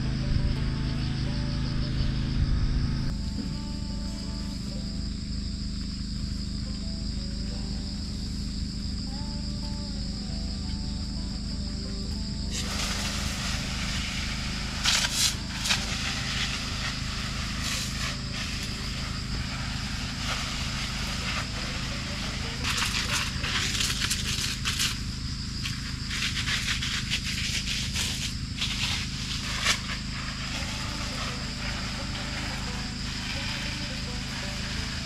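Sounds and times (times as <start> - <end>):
low hum: 0.0 - 35.0
spray gun hissing into leaves: 3.1 - 35.0.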